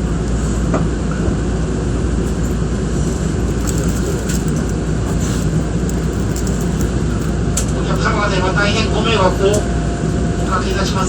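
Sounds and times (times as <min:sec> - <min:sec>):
train rumbling inside: 0:00.0 - 0:11.0.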